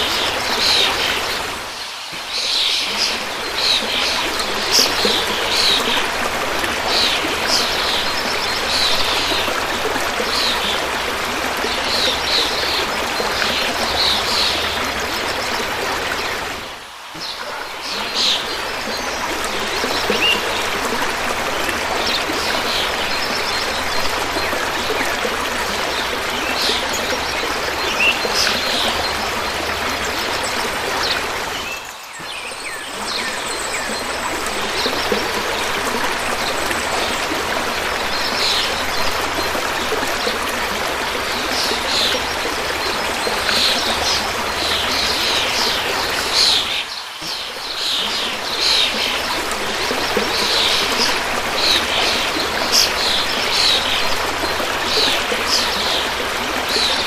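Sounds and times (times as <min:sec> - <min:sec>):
river running: 0:00.0 - 0:57.0.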